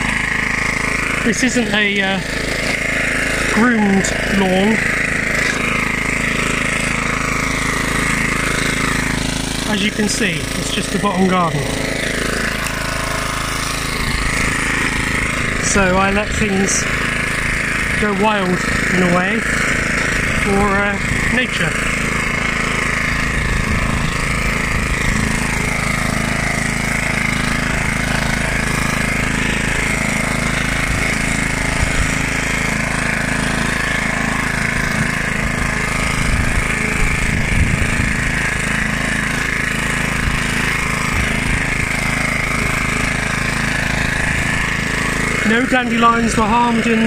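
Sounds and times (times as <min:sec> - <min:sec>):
lawnmower engine cutting grass: 0:00.0 - 0:47.0.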